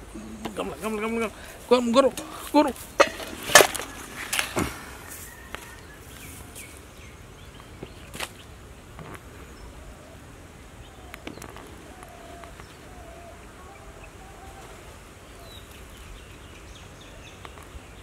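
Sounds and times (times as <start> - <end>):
birds chirping: 0.0 - 18.0
leaves rustling: 0.0 - 18.0.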